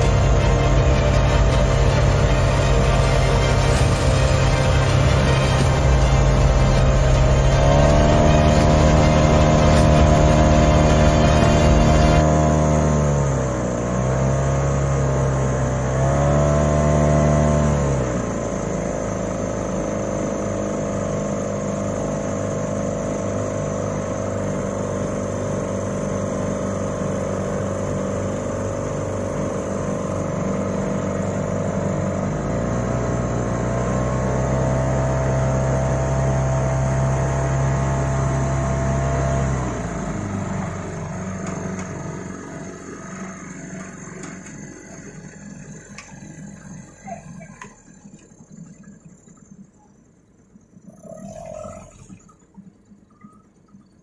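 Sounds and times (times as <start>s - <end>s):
vehicle engine revving: 0.0s - 48.7s.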